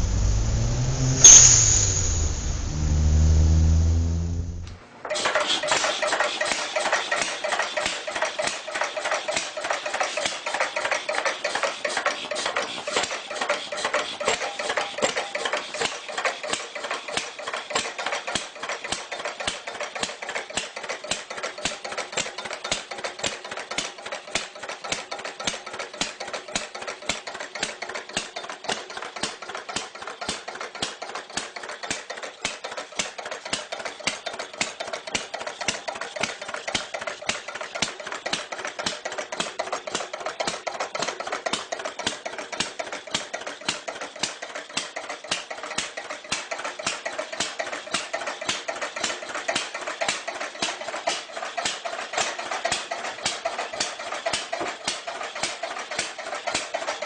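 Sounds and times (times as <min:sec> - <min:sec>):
machine clattering steadily: 0:05.0 - 0:57.0.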